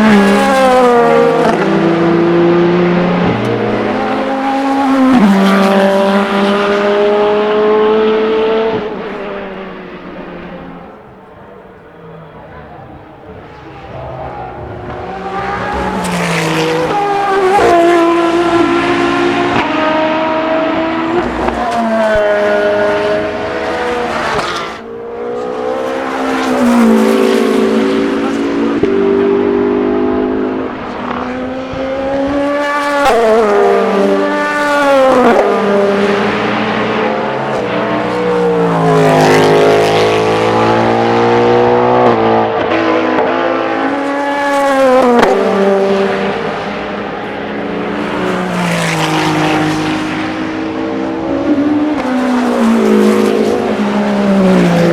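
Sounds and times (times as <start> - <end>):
race cars passing at speed: 0.0 - 54.9.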